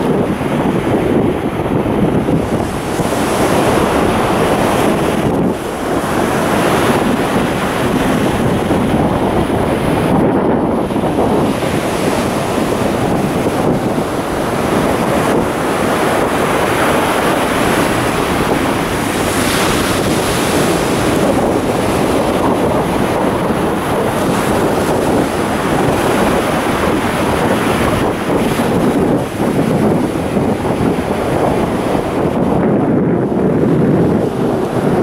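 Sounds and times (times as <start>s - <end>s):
ocean surf: 0.0s - 35.0s
wind buffeting microphone: 0.0s - 35.0s.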